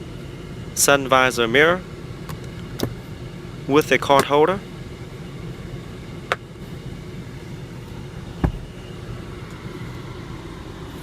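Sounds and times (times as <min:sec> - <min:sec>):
car engine hum inside cabin: 0:00.0 - 0:11.0.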